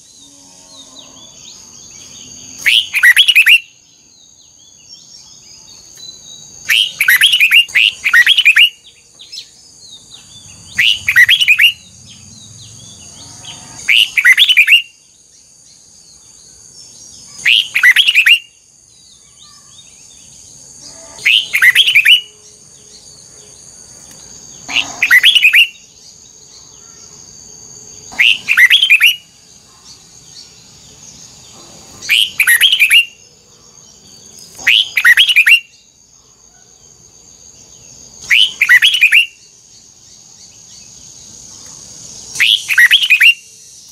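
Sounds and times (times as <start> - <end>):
bulbul singing: 0.0 - 43.9.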